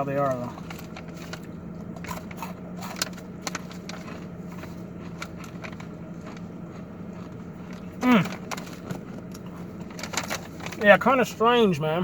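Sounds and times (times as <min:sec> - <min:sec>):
steady low hum: 0:00.0 - 0:12.0
crunchy snack chewing: 0:00.3 - 0:10.7.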